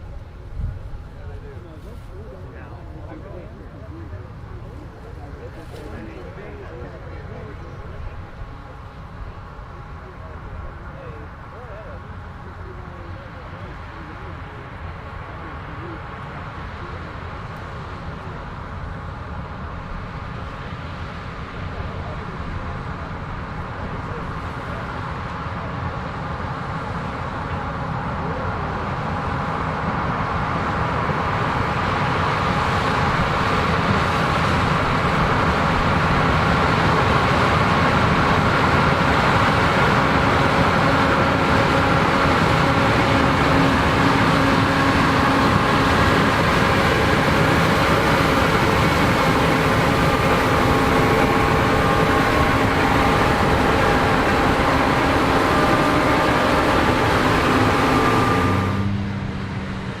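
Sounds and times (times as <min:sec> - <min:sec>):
combine harvester engine hum: 0:00.0 - 1:00.0.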